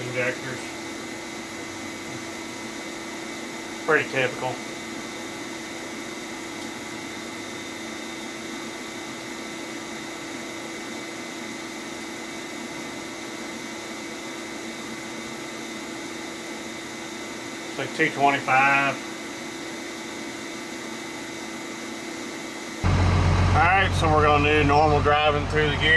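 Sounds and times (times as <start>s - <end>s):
test stand machine humming: 0.0s - 25.9s.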